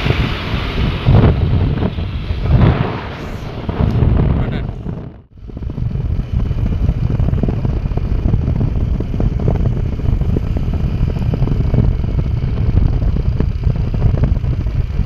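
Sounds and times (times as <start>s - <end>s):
road vehicle low rumble: 0.0s - 15.0s.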